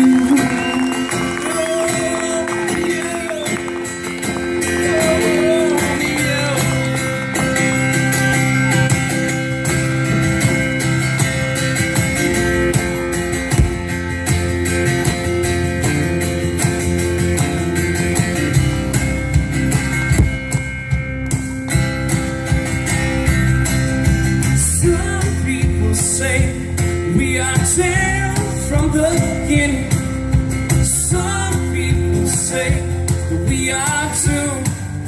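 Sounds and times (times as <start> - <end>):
live rock band playing: 0.0 - 35.0
steady drum beat: 0.0 - 35.0.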